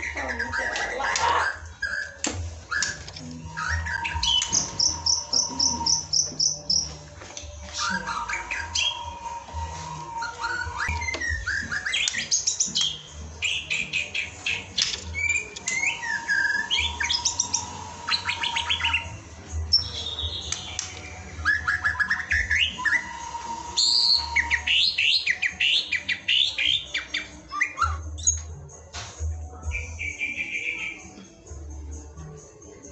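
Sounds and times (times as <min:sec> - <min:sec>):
songbird whistling with trills: 0:00.0 - 0:07.0, 0:07.6 - 0:28.5, 0:29.7 - 0:31.1.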